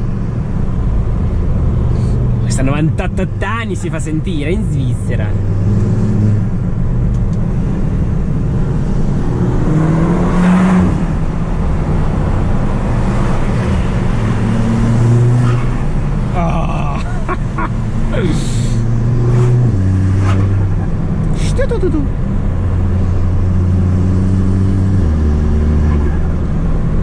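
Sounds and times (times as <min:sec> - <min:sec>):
turbocharged car engine driving: 0:00.0 - 0:27.0.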